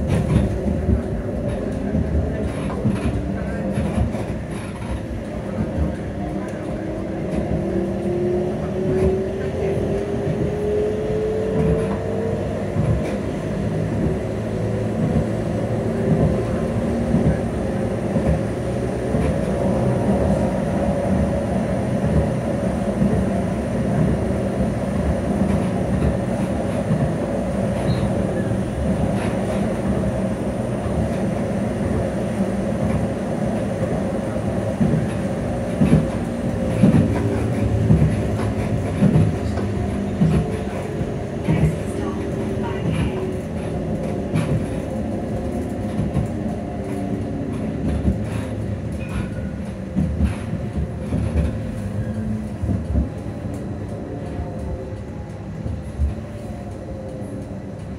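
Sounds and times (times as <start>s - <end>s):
tram wheels rumbling on rail: 0.0s - 57.9s.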